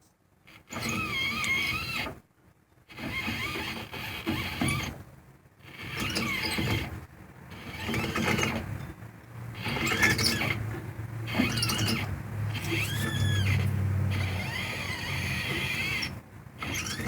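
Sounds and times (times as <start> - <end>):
wheel bearings grinding and squealing: 0.5 - 2.1, 2.9 - 5.0, 5.6 - 17.0.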